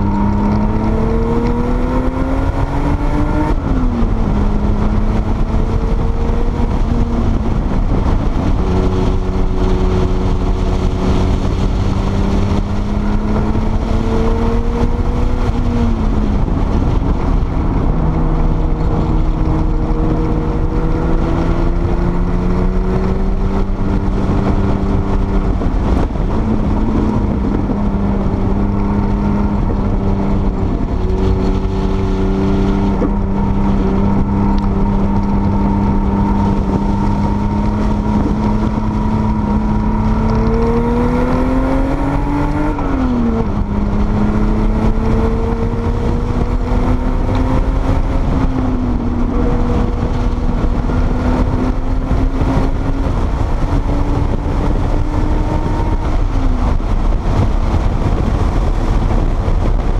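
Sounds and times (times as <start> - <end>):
car engine at speed: 0.0 - 59.9
road noise: 0.0 - 59.9
wind noise: 0.0 - 59.9.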